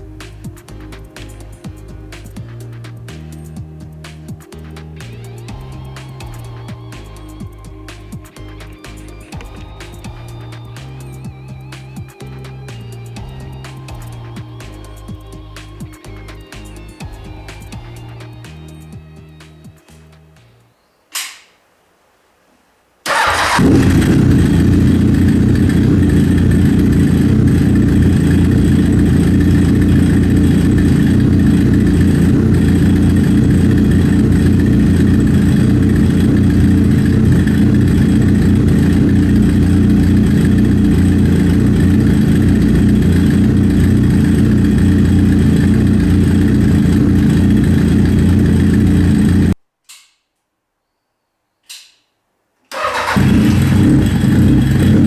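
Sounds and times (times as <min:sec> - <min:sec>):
motorcycle engine idling: 0:00.0 - 0:19.8, 0:23.1 - 0:49.6, 0:52.7 - 0:55.0.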